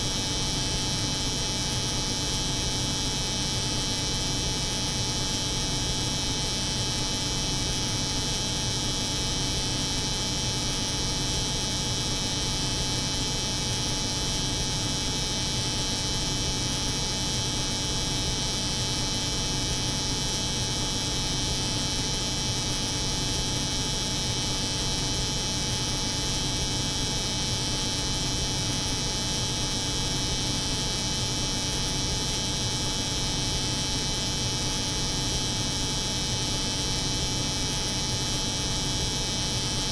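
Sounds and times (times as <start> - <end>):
refrigeration unit humming: 0.0 - 39.9.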